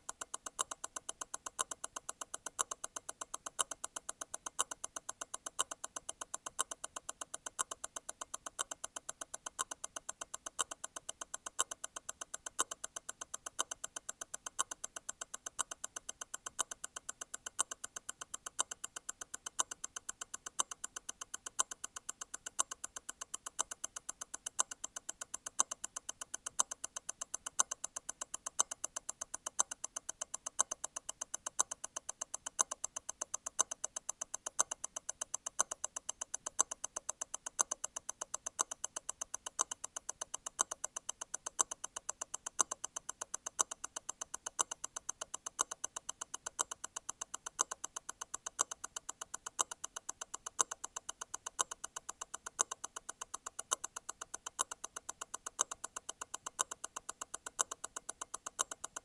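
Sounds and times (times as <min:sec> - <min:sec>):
louder watch tick: 0:00.0 - 0:59.0
watch ticking: 0:00.0 - 0:59.0.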